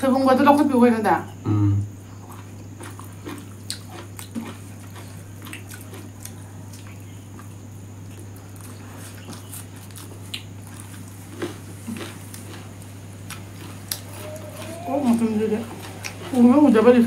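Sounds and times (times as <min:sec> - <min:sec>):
steady low hum: 0:00.0 - 0:17.0
chewing and lip smacks: 0:02.2 - 0:16.9.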